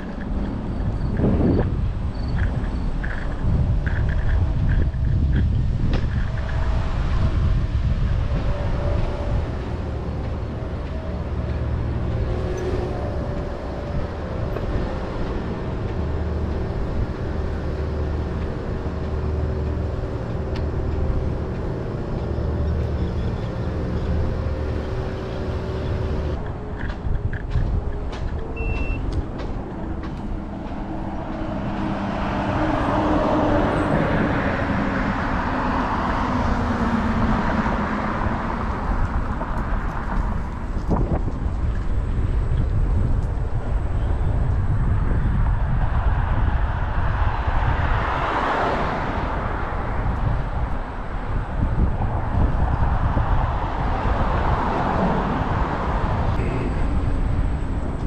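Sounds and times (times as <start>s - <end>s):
bus passing: 0.0s - 58.0s
electric scooter rumble and hum: 0.0s - 58.0s
road traffic passing: 0.0s - 58.0s.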